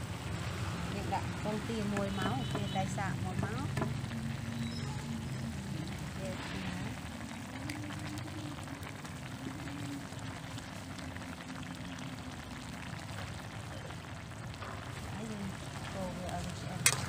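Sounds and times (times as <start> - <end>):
stir-fry bubbling in a wok: 0.0 - 17.0
small pops and crackles: 1.7 - 4.4, 5.0 - 17.0.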